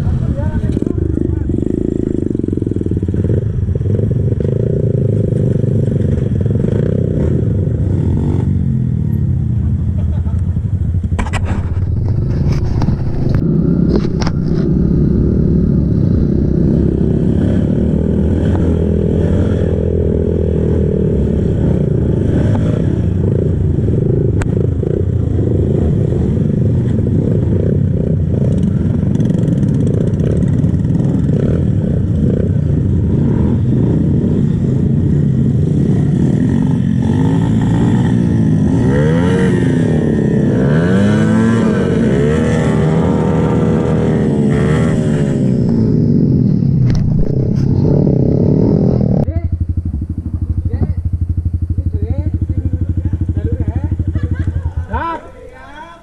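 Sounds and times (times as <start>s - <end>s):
dirt bike engine revving: 0.0s - 9.1s, 11.0s - 55.4s.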